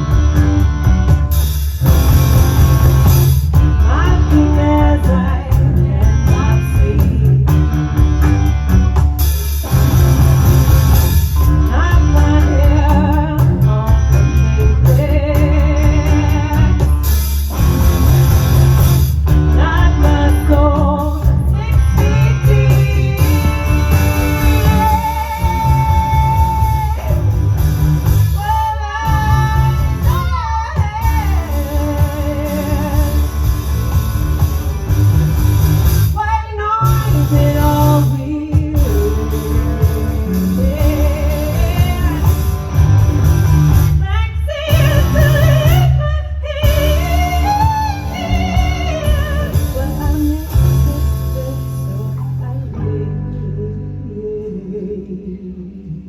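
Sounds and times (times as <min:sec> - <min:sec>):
drums: 0:00.0 - 0:53.0
bass guitar: 0:00.0 - 0:56.0
electric guitar: 0:00.0 - 0:56.0.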